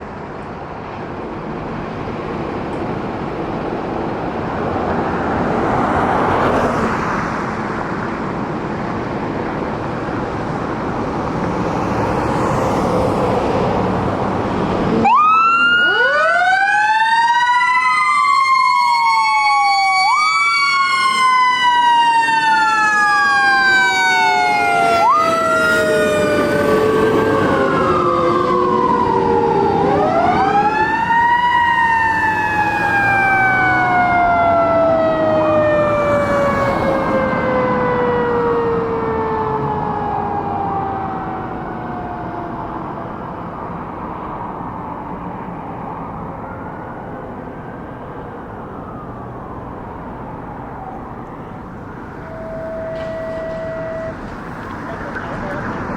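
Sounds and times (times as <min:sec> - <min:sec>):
passing traffic: 0:00.0 - 0:55.9
fire engine siren wailing: 0:01.8 - 0:55.9.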